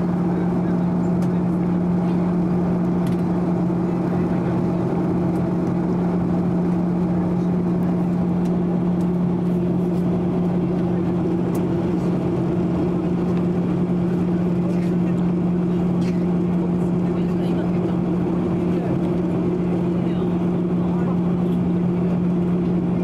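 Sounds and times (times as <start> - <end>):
constant low hum: 0.0 - 23.0
jet engines droning: 0.0 - 23.0.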